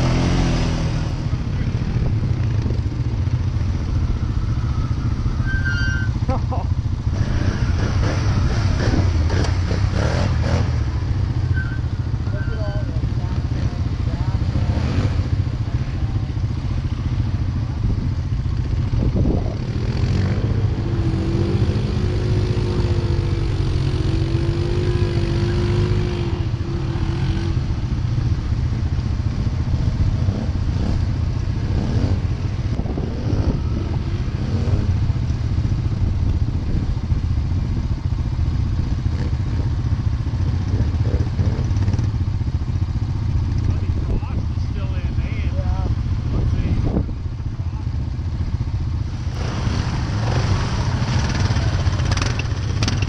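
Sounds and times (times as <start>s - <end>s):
quad engine droning: 0.0s - 53.0s.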